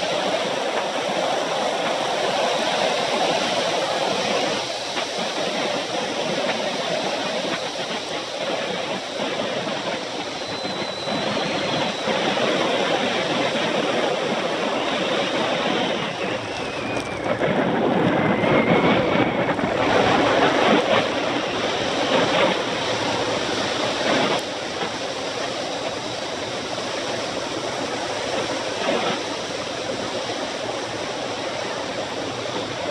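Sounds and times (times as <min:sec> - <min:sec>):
bicycle tyres rolling on asphalt: 0:00.0 - 0:32.9
wind rushing over microphone: 0:00.0 - 0:32.9.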